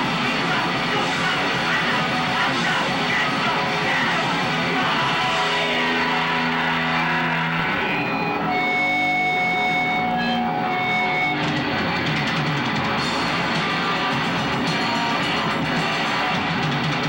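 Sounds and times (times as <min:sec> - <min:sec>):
distorted electric guitar: 0:00.0 - 0:17.0
punk band playing live: 0:00.0 - 0:17.0.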